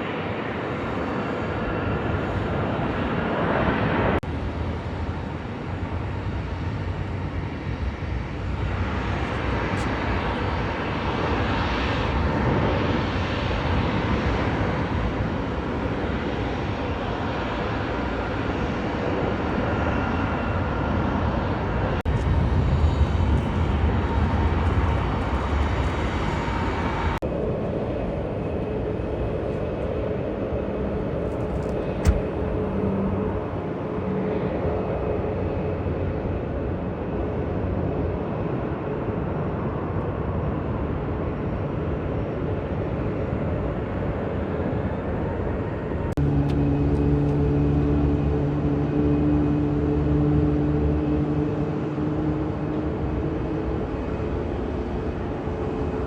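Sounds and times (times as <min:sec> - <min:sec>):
jet engines rumbling: 0:00.0 - 0:39.9, 0:40.5 - 0:49.3.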